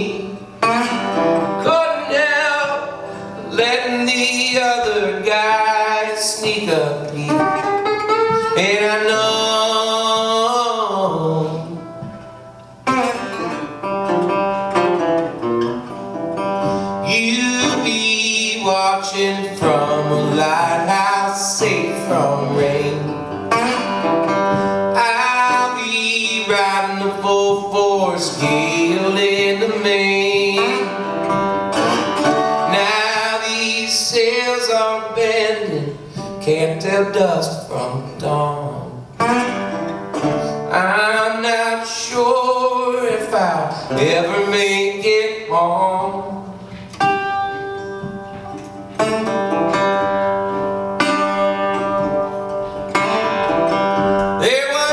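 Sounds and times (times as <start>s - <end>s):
man singing folk song: 0.0s - 14.7s, 15.4s - 54.9s
resonator guitar: 0.0s - 54.9s.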